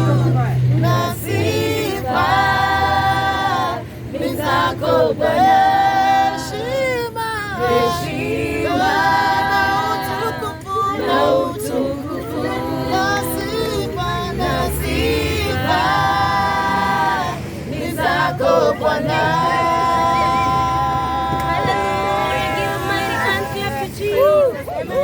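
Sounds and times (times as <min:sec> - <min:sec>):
choir singing a cappella: 0:00.0 - 0:25.0.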